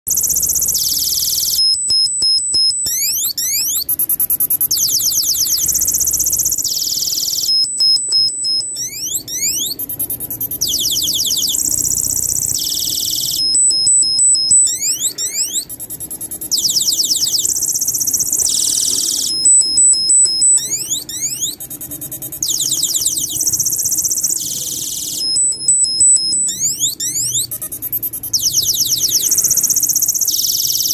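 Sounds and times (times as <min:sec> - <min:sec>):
electronic bird-chirp siren: 0:00.1 - 0:30.9.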